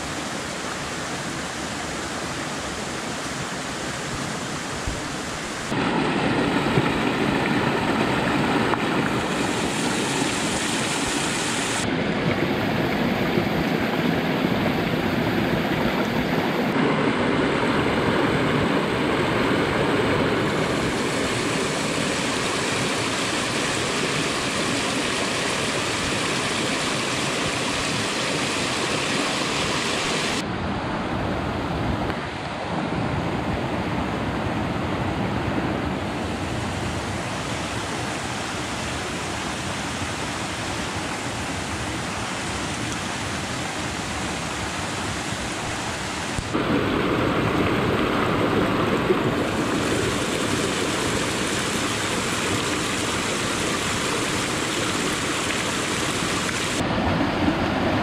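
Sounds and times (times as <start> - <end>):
stream running over stones: 0.0 - 30.4, 37.2 - 57.2.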